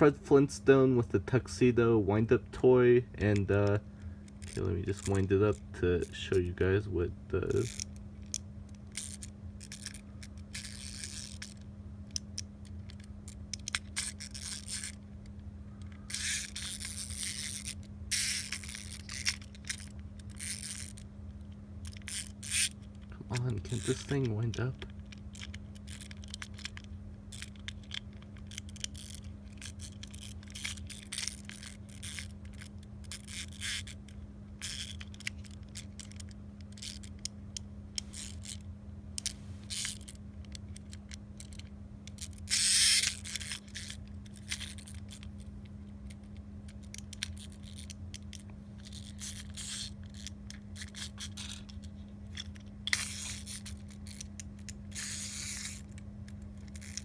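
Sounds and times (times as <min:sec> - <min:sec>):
plastic toy clicks and scrapes: 0:03.2 - 0:06.5, 0:07.4 - 0:37.3, 0:38.0 - 0:38.6, 0:39.2 - 0:57.0.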